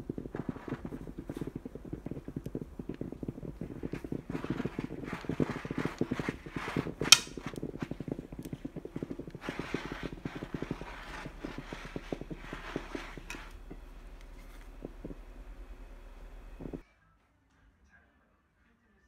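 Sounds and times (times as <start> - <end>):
steam hissing strokes: 0.0 - 16.8
steamer pump clicking pulse: 0.0 - 16.8.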